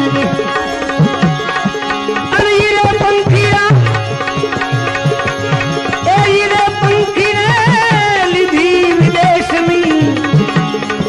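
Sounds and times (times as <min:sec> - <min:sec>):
tabla playing: 0:00.0 - 0:11.0.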